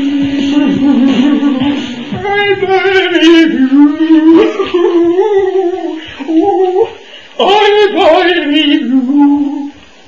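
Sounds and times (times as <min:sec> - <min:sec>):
person singing loudly: 0:00.0 - 0:10.0.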